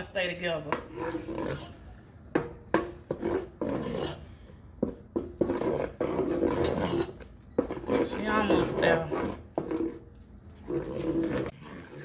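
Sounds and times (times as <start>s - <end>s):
spoon scraping a pot: 0.6s - 12.0s.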